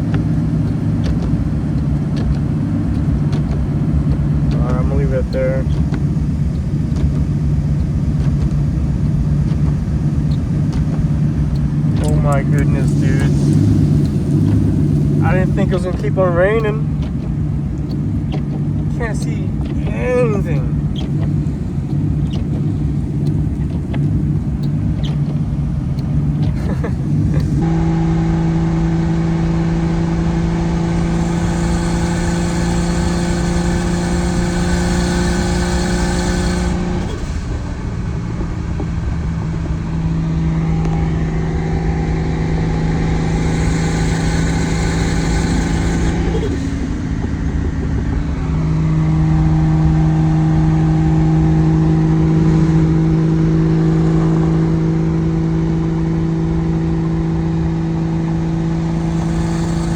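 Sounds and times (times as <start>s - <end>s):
car engine cruising: 0.0s - 59.9s
heavy rain on wet road: 0.0s - 59.9s.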